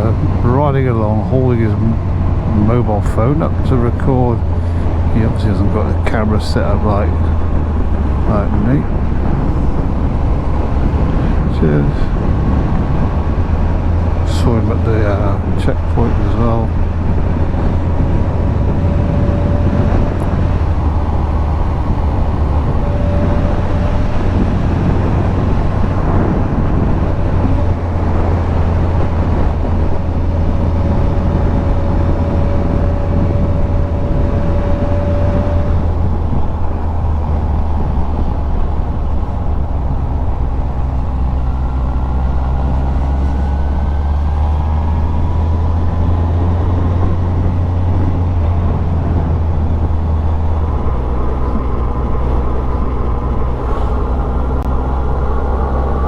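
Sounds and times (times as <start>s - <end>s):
motorcycle engine running: 0.0s - 56.0s
wind noise: 0.0s - 56.0s.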